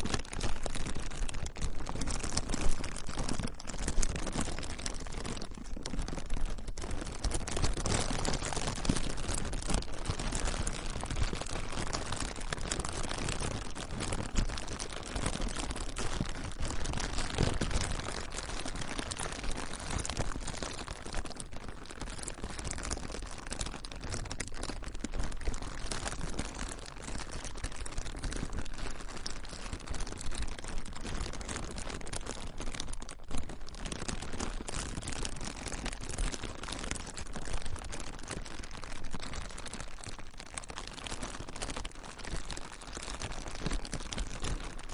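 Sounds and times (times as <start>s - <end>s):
plastic crinkling: 0.0s - 44.9s.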